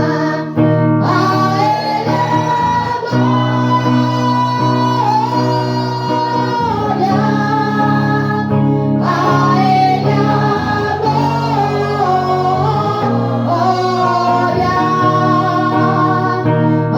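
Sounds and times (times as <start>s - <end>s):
held bass notes: 0.0s - 16.9s
worship singing: 0.0s - 16.9s.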